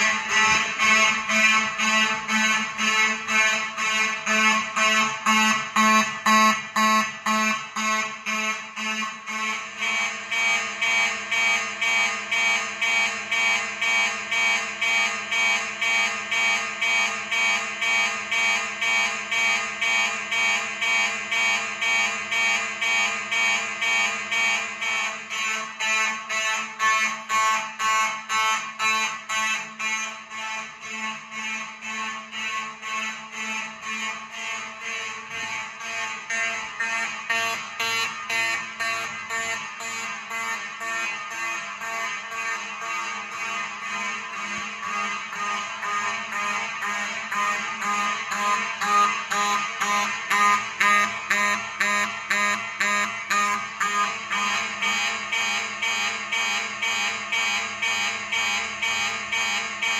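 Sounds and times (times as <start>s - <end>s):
pulsing fire alarm tone: 0.0s - 59.9s.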